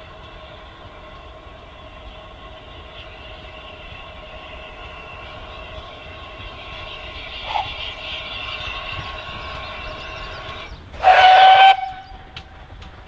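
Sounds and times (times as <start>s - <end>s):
steam locomotive running: 0.0s - 13.0s.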